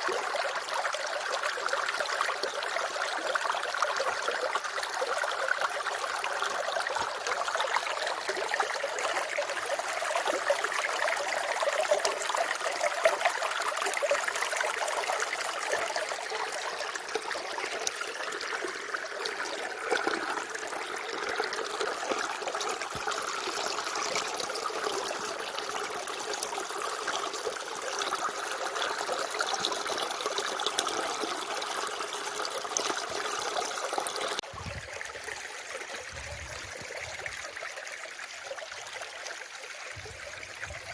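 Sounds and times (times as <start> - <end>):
water running and trickling: 0.0 - 40.9.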